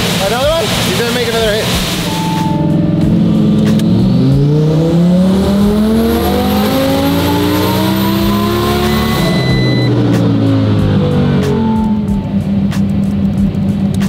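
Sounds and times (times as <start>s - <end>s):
car engine revving at full throttle: 0.0s - 14.0s
high turbo whine: 0.0s - 14.0s.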